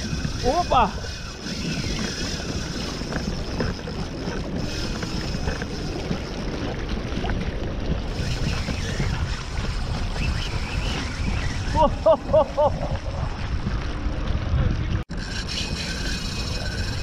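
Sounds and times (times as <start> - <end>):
water lapping at a kayak: 0.0 - 17.0
wind buffeting microphone: 0.0 - 17.0.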